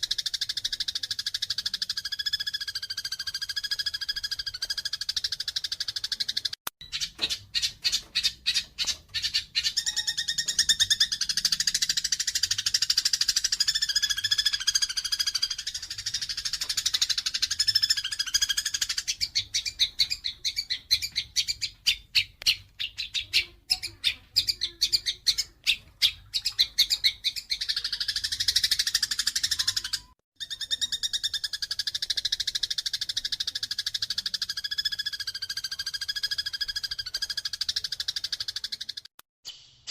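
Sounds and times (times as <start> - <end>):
sparrows chirping and chattering: 0.0 - 39.1.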